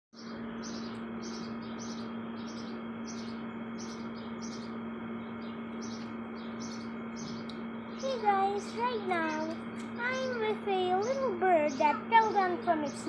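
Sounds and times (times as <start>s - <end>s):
baby bird chirping: 0.2s - 13.0s
steady low hum: 0.2s - 13.0s.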